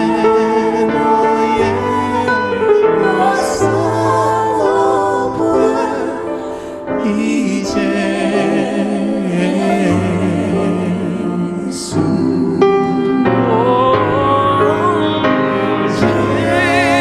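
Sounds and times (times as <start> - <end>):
keyboard accompaniment: 0.0 - 17.0
voices singing: 0.0 - 17.0.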